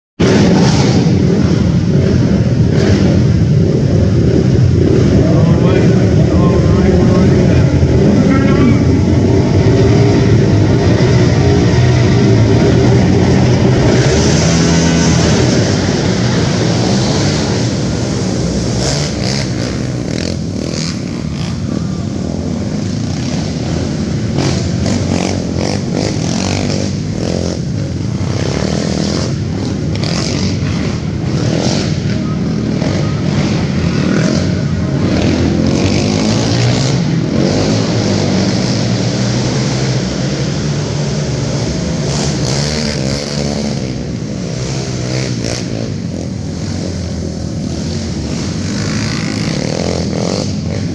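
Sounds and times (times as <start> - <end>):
racing atv engines revving: 0.2 - 50.9.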